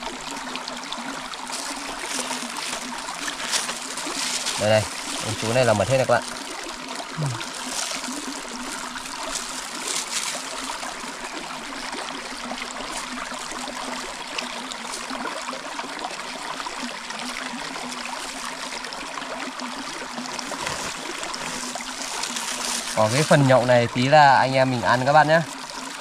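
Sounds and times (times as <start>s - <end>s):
stream trickling: 0.0s - 26.0s.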